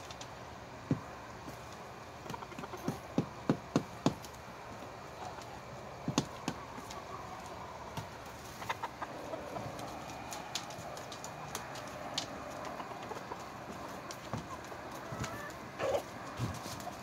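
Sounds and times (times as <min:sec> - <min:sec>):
chickens pecking on wood: 0:00.0 - 0:17.0.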